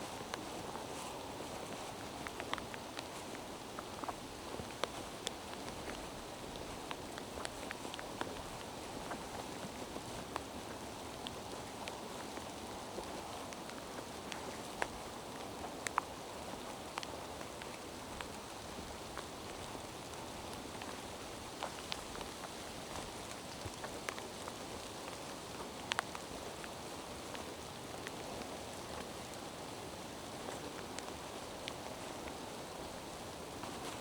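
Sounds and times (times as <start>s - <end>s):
sharp ticks of raindrops: 0.0s - 34.0s
steady rain in forest: 0.0s - 34.0s.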